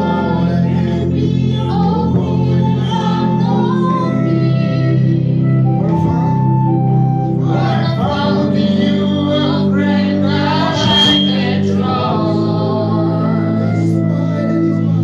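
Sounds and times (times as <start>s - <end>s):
organ playing held chords: 0.0s - 15.0s
voices singing: 0.0s - 15.0s.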